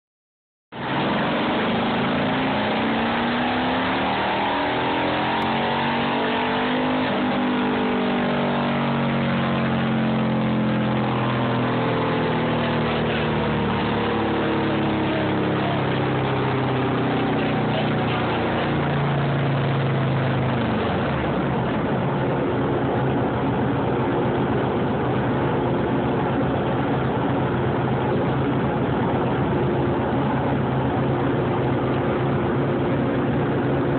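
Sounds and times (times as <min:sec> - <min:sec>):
motorcycle engine revving under load: 0:00.8 - 0:33.9.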